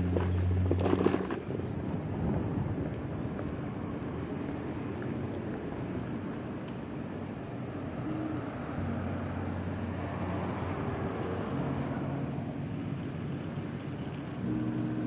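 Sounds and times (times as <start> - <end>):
rushing traffic noise: 0.0 - 15.0
traffic engine hum: 0.0 - 15.0.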